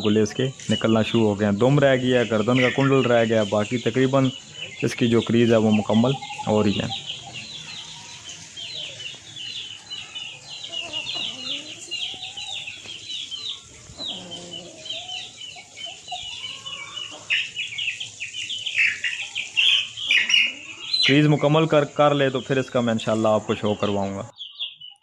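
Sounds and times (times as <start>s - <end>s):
chicken clucking: 0.0s - 25.0s
small birds chirping: 0.0s - 25.0s.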